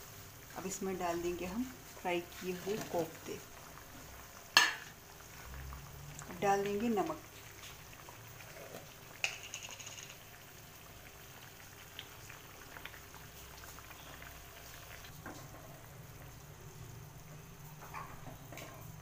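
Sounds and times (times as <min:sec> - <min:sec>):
gravy bubbling: 0:00.0 - 0:09.5, 0:10.1 - 0:18.1.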